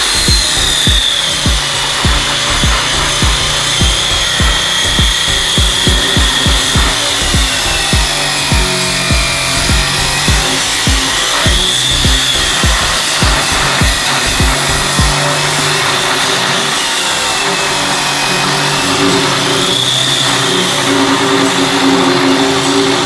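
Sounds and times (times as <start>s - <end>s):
rhythmic cutting strokes on metal: 0.0s - 23.0s
steady mechanical hum: 0.0s - 23.0s.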